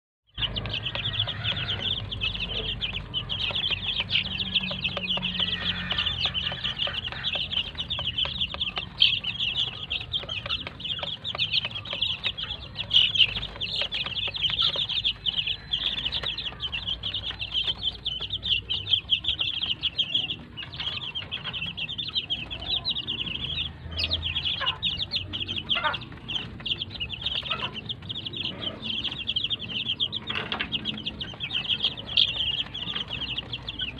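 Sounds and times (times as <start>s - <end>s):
chicks peeping: 0.3s - 33.9s.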